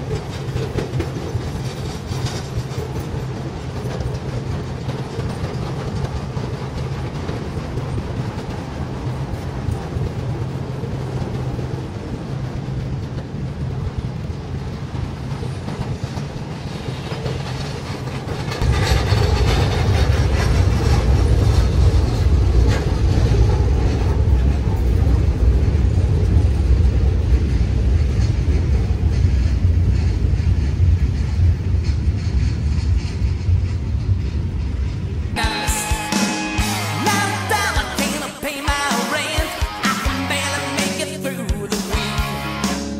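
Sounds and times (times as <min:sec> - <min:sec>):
train wheels clattering on rails: 0:00.0 - 0:42.2.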